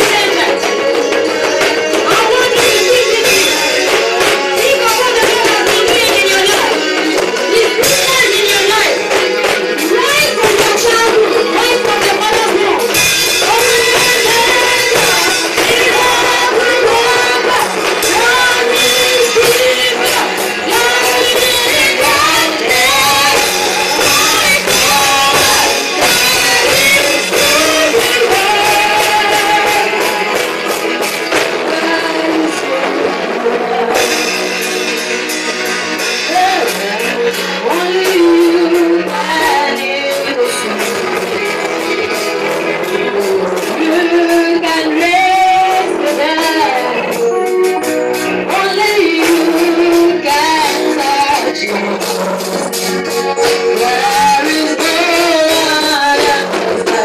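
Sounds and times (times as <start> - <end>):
woman singing gospel into microphone: 0.0 - 34.4, 36.0 - 42.2, 43.0 - 57.0
instrumental backing: 0.0 - 57.0
percussion hits: 0.0 - 57.0.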